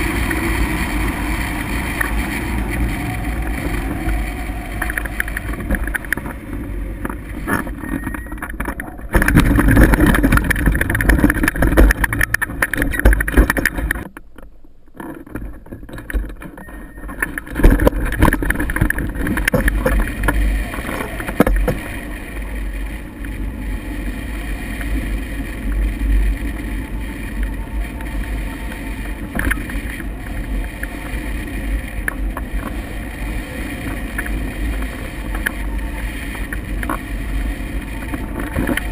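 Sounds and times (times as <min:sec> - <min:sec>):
wind buffeting microphone: 0:00.0 - 0:14.1, 0:15.2 - 0:38.9.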